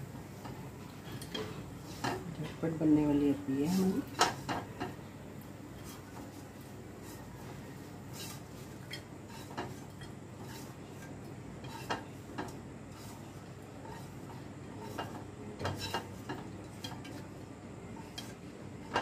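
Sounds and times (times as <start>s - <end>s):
spatula scraping a pan: 0.3s - 5.0s, 5.7s - 19.0s.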